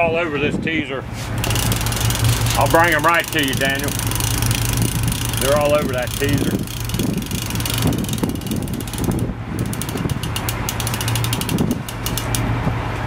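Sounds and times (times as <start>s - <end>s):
boat engine hum: 1.0s - 13.0s
reel ratchet clicking: 1.3s - 12.5s.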